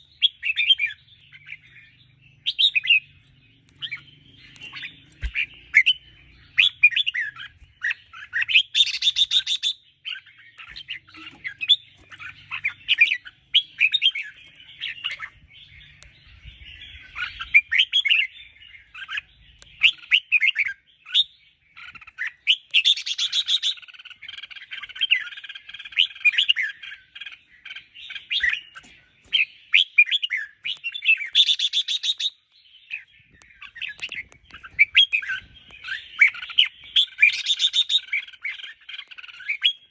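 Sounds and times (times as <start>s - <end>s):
birds singing chirpy whistles: 0.0s - 39.9s.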